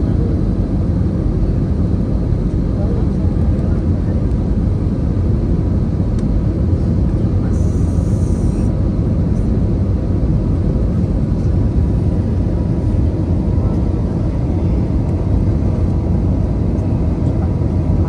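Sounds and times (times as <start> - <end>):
low rumble of aircraft engines: 0.0 - 18.0.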